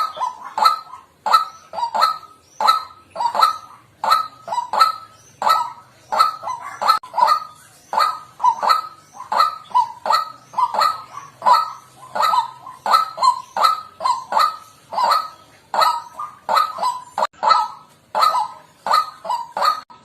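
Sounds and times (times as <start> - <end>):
waterhen croaking calls: 0.0 - 20.0.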